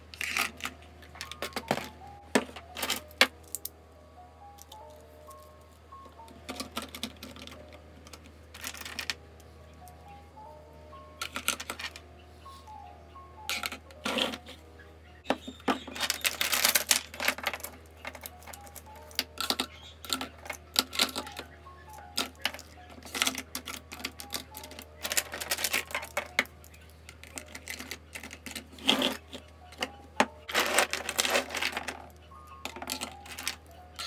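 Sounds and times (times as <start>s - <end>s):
soft background music: 0.0s - 34.0s
plastic pens clicking and clattering: 0.1s - 3.7s, 6.2s - 9.2s, 11.2s - 12.0s, 13.5s - 14.6s, 15.3s - 34.0s.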